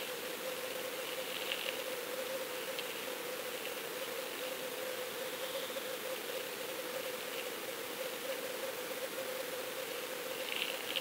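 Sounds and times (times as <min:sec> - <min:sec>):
faint ticks: 0:00.0 - 0:07.6, 0:08.2 - 0:11.0
constant hum: 0:00.0 - 0:11.0.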